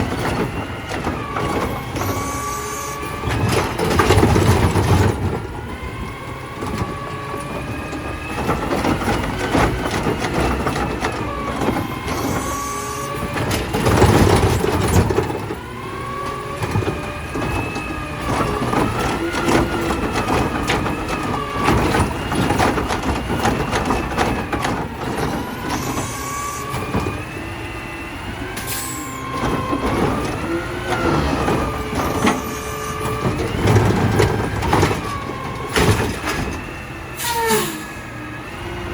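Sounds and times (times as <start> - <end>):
garbage truck engine: 0.0 - 38.9
hydraulic pump whine: 0.0 - 38.9.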